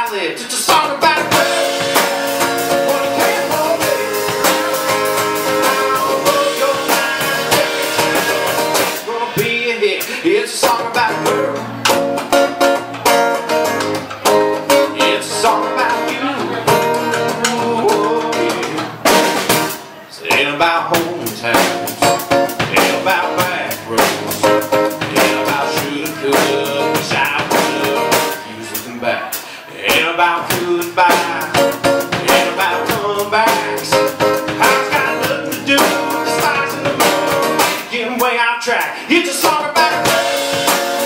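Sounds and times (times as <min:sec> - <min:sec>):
country music guitar and drums: 0:00.0 - 0:41.0.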